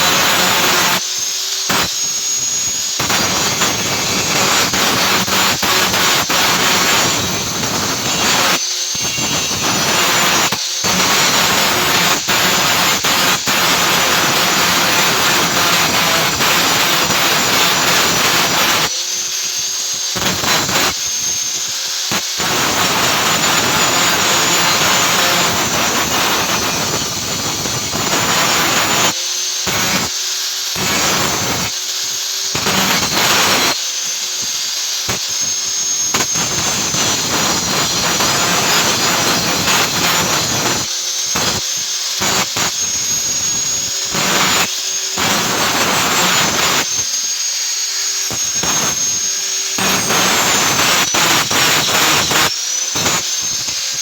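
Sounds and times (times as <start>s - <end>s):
angle grinder grinding steel: 0.0s - 54.0s.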